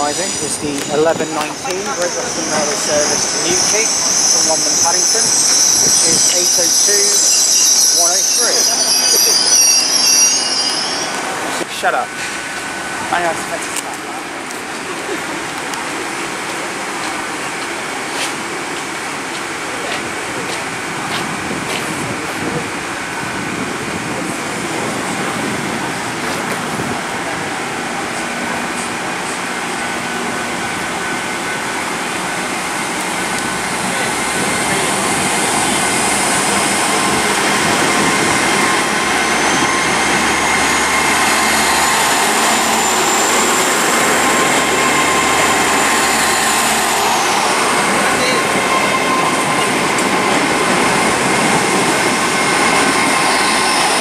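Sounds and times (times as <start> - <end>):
high whine: 0.0 - 18.0, 19.0 - 54.0
train running noise with held tones: 0.0 - 54.0.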